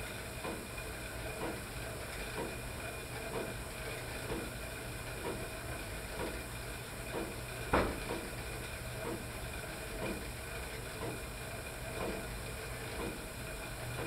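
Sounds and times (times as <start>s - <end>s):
exercise bike rhythmic whoosh: 0.0s - 14.0s.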